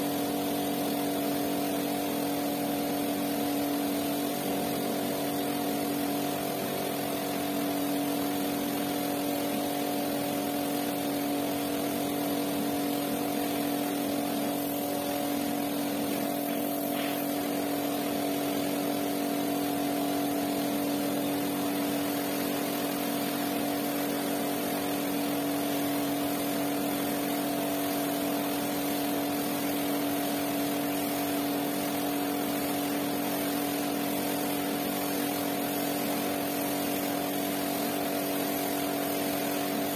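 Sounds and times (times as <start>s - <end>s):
pressure washer motor hum: 0.0s - 39.9s
water jet hissing onto rug: 0.0s - 39.9s.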